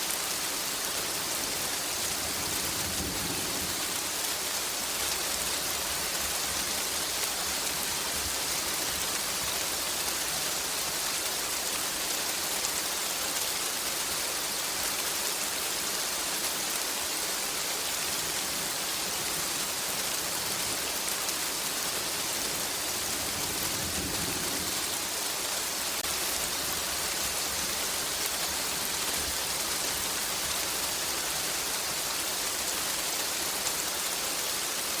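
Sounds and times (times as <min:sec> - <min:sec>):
heavy rain hiss: 0:00.0 - 0:35.0.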